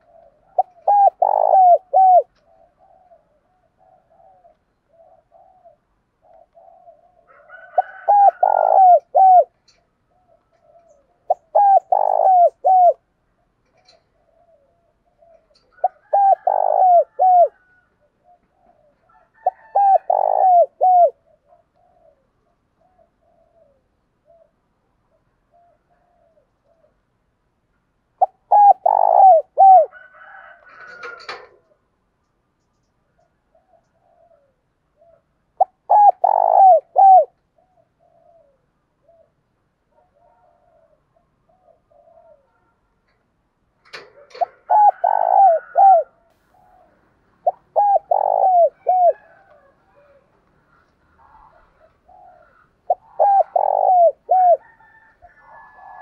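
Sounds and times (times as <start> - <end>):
dove cooing: 0.0 - 27.0, 28.2 - 31.8, 33.2 - 42.9, 43.9 - 56.0
faint low cooing murmurs: 0.0 - 27.5, 28.2 - 32.1, 32.7 - 56.0.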